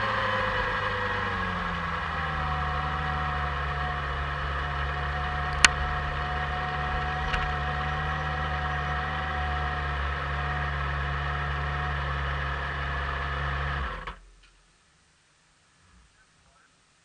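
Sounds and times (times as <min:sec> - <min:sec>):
motorcycle engine idling: 0:00.0 - 0:14.7.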